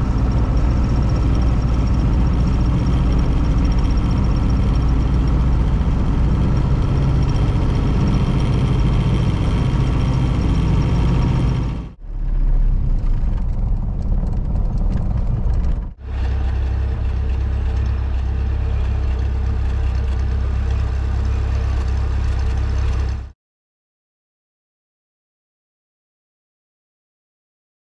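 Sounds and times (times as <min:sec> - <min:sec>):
car engine running: 0:00.0 - 0:23.3.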